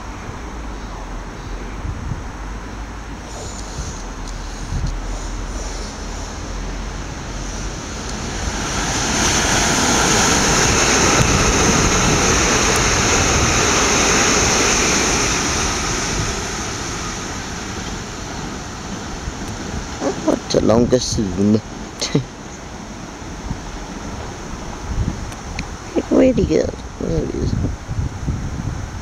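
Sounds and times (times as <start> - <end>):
electric train passing at speed: 0.0 - 29.0.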